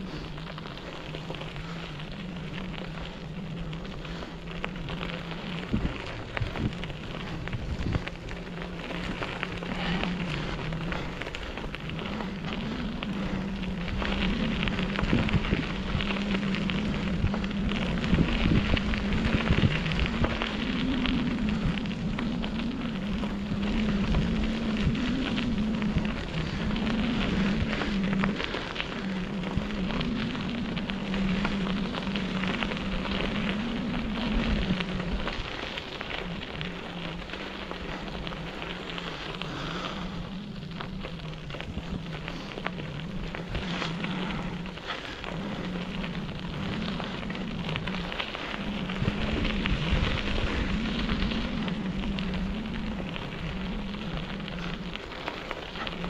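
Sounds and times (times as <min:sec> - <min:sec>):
bicycle tyres crunching over gravel: 0:00.0 - 0:56.0
low wavering hum: 0:00.0 - 0:56.0.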